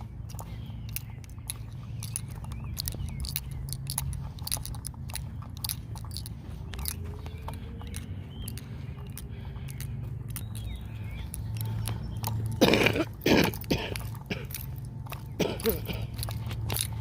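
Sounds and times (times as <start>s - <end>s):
crunching with sharp clicks: 0.0s - 17.0s
low steady rumble: 0.0s - 17.0s.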